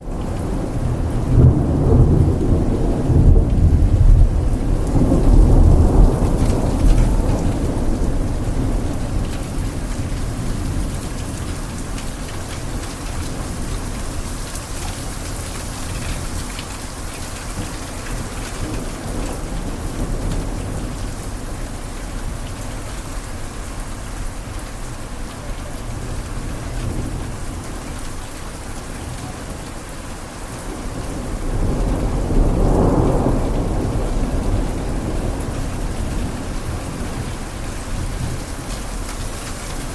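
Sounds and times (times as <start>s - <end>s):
heavy rain: 0.0s - 39.9s
rolling thunder: 0.0s - 39.9s.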